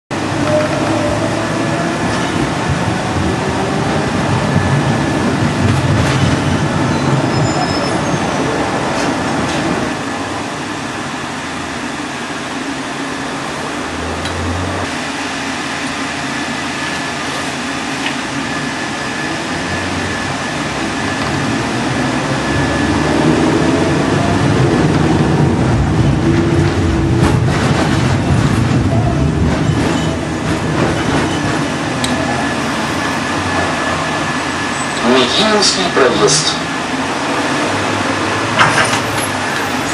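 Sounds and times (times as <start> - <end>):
tram wheels rumbling on rails: 0.1 - 39.9.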